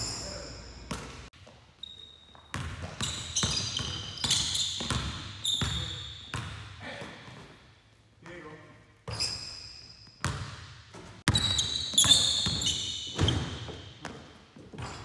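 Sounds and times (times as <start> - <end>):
sneakers squeaking on court: 0.0 - 7.5, 9.0 - 15.0.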